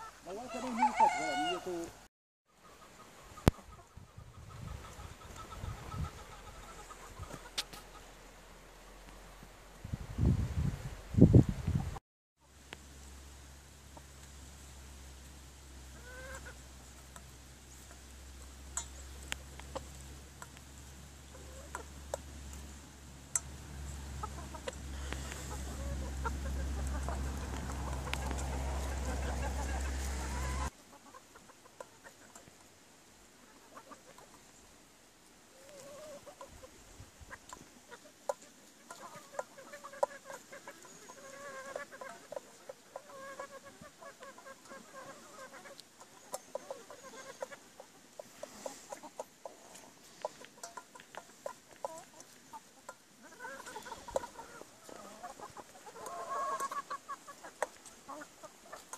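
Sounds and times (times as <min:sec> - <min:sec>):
chickens clucking: 0:00.0 - 0:02.0, 0:02.6 - 0:08.4, 0:15.8 - 0:34.8, 0:35.5 - 0:58.9.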